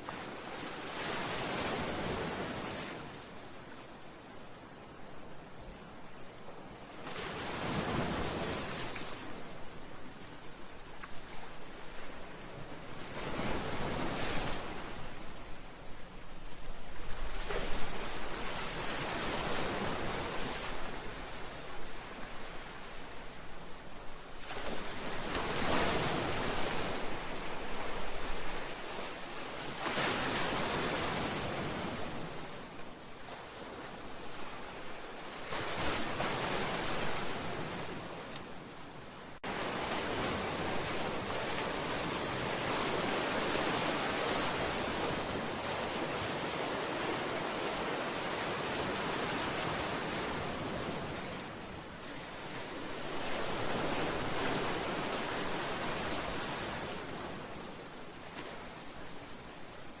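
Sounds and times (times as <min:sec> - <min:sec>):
sea waves against a seawall: 0:00.0 - 0:03.9, 0:06.9 - 1:00.0.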